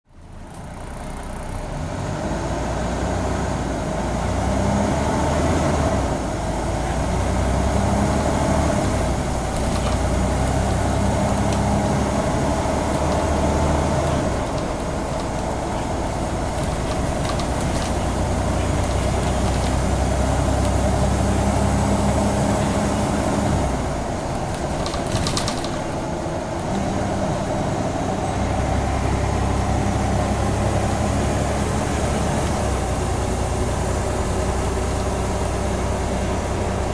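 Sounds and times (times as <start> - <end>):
road noise: 0.0 - 36.9
bus diesel engine droning: 0.1 - 36.9.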